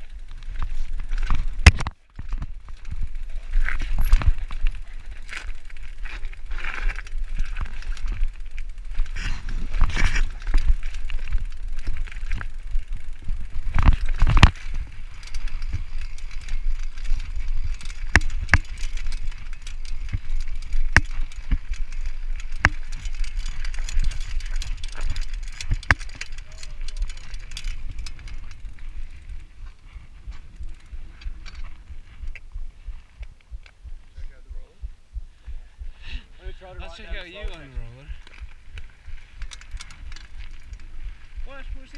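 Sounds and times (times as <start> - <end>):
bicycle frame rattling: 0.0 - 34.0, 36.4 - 41.9.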